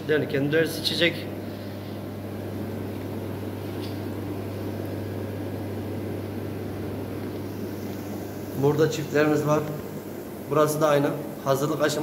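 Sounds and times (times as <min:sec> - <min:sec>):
equipment humming with faint hiss: 0:00.0 - 0:12.0.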